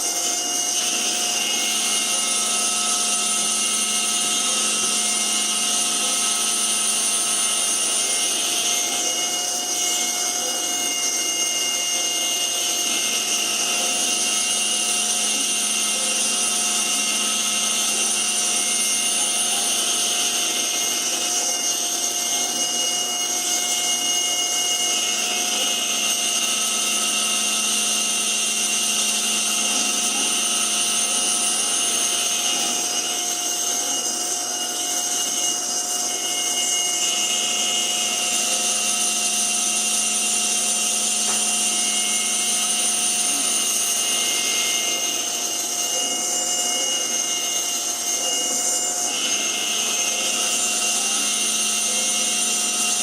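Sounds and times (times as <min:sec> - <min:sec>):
cutter milling wood: 0:00.0 - 0:53.0
mill spindle whining: 0:00.0 - 0:53.0.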